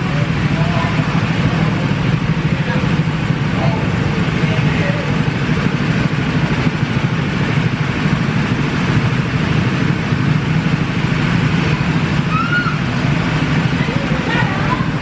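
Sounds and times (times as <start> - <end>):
go-kart engines idling: 0.0 - 15.0.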